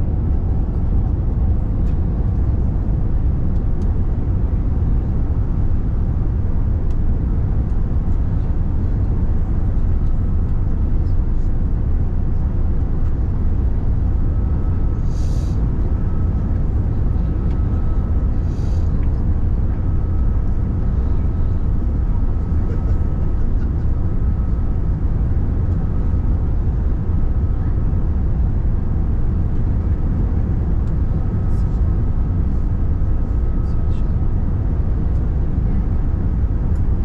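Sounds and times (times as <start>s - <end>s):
airplane cabin engine rumble: 0.0s - 37.0s
faint steady whine: 0.0s - 37.0s.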